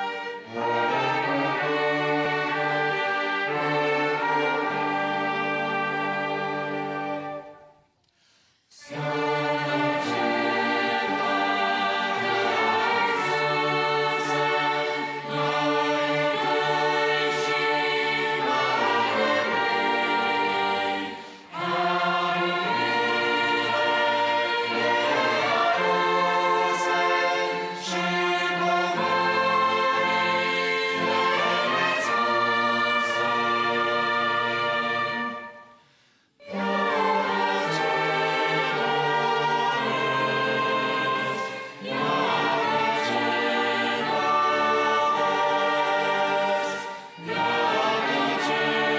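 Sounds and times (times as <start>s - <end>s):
choir singing a hymn: 0.0s - 7.7s, 8.7s - 35.8s, 36.4s - 48.9s
string orchestra: 0.0s - 48.9s.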